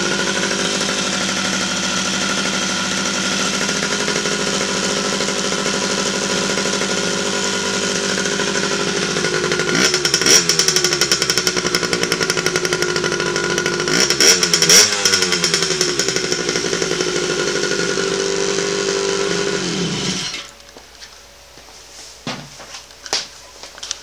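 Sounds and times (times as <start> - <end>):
motorcycle engine revving: 0.0 - 20.6.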